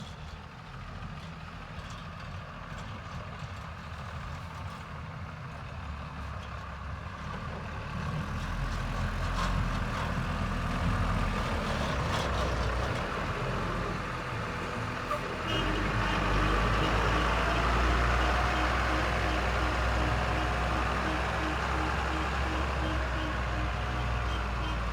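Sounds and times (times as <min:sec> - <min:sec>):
diesel engines running: 0:00.0 - 0:24.9.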